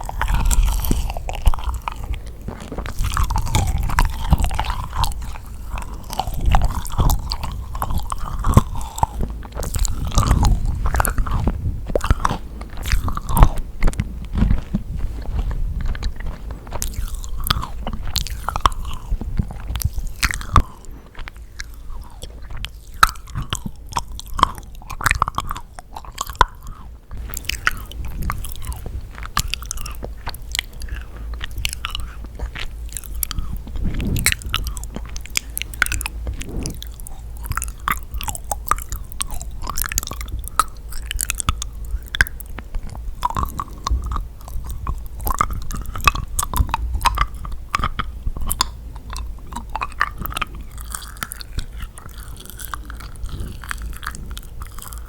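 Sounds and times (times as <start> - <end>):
crunching clicks: 0.0 - 55.0
wet sticky chewing: 0.0 - 55.0.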